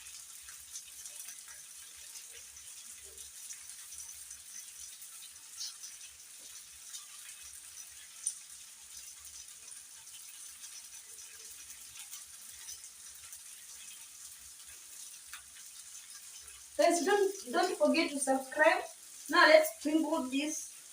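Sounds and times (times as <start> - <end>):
food sizzling in a pan: 0.0 - 20.9
small crackles: 0.0 - 20.9.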